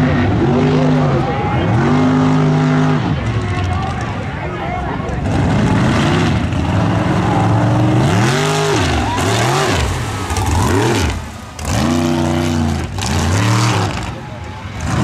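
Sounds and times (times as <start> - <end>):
truck engine revving: 0.0 - 4.1, 4.9 - 15.0.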